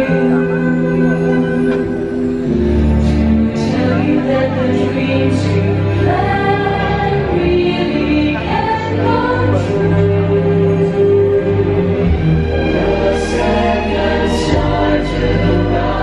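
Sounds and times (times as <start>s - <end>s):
choir singing held notes: 0.0s - 16.0s
soundtrack music: 0.0s - 16.0s.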